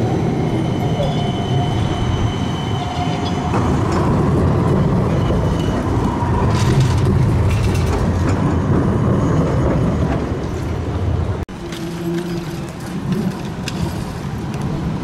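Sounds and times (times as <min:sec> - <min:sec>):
tram rolling by: 0:00.0 - 0:15.0.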